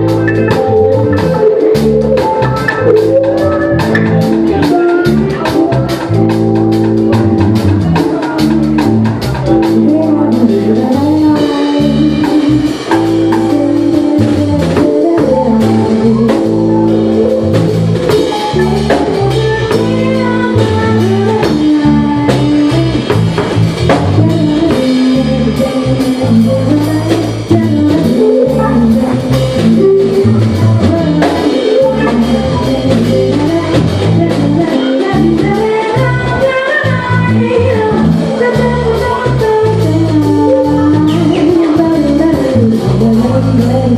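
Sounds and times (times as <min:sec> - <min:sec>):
drum kit beat: 0:00.0 - 0:43.9
jazz fusion band playing: 0:00.0 - 0:43.9.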